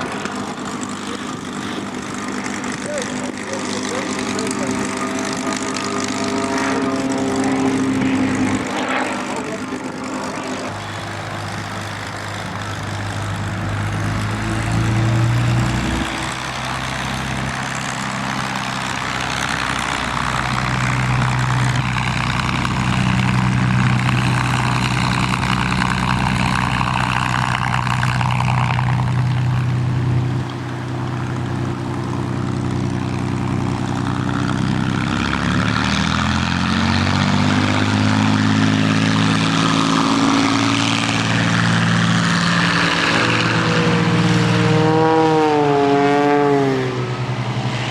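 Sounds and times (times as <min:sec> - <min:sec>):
propeller aircraft engine droning: 0:00.0 - 0:47.9.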